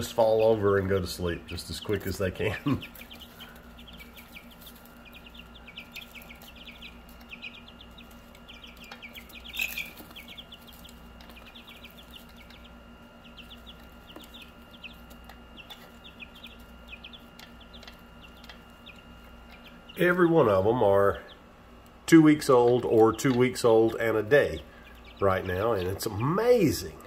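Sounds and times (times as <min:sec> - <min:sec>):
air conditioner humming: 0:00.0 - 0:27.0
chicks peeping: 0:00.0 - 0:27.0.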